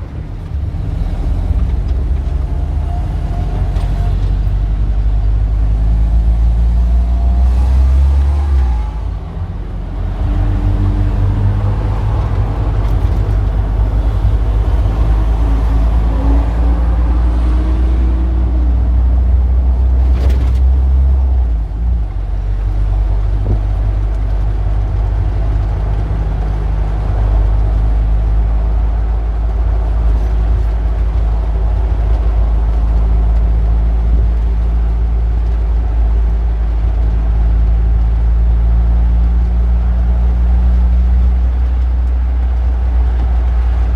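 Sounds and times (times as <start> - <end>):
large engine rumbling: 0.0 - 43.9
street traffic: 0.0 - 43.9.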